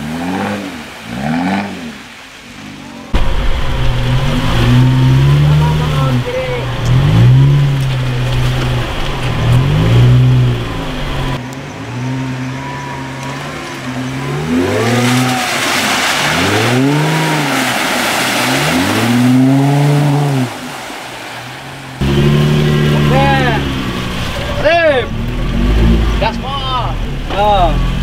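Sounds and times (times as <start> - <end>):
tyres churning mud: 0.0 - 28.0
car engine revving: 3.2 - 28.0.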